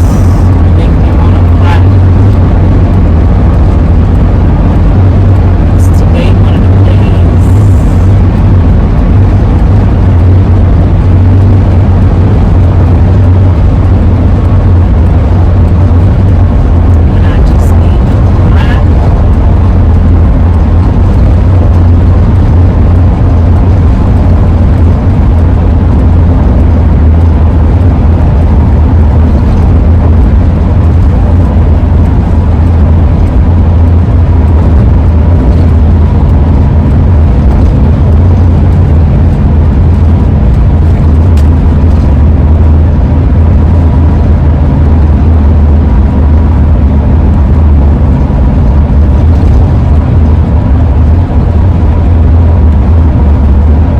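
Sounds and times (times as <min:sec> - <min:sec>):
road and wind rumble in van: 0:00.0 - 0:53.9
roof rack howl: 0:00.0 - 0:53.9.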